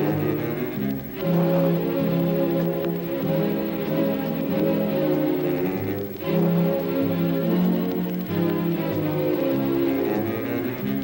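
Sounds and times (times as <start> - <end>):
slow orchestral strings: 0.0 - 11.0.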